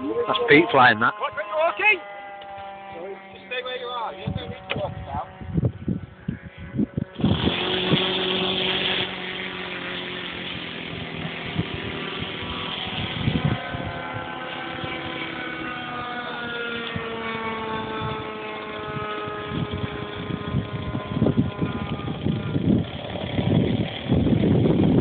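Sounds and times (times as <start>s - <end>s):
model plane motor whine: 0.0s - 25.0s.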